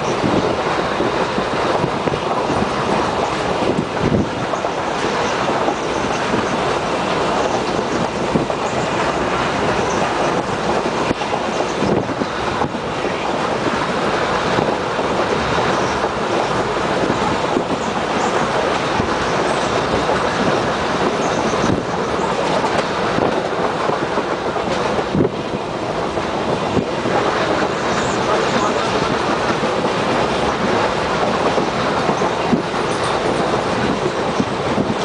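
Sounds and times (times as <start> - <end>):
train wheels rumbling on rails: 0.0 - 35.0
wheel clacks: 0.0 - 35.0.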